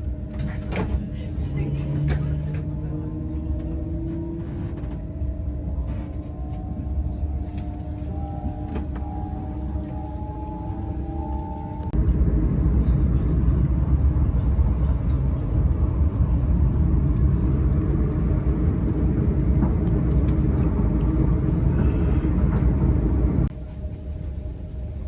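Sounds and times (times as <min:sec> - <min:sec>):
train wheels rumbling on track: 0:00.0 - 0:23.5.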